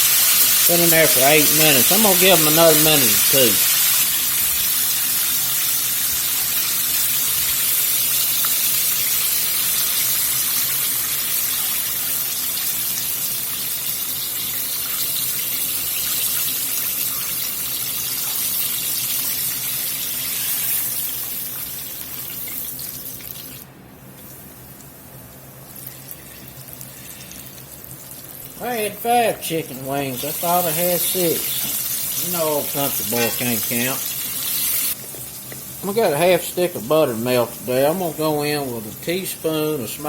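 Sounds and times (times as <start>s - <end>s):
chicken deep-frying in oil: 0.0s - 23.7s, 24.3s - 40.0s.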